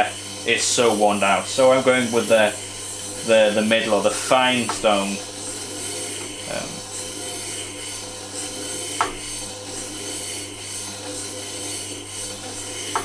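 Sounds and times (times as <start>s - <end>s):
chisel scraping on grinding wheel: 0.0s - 13.0s
grinder motor hum: 0.0s - 13.0s.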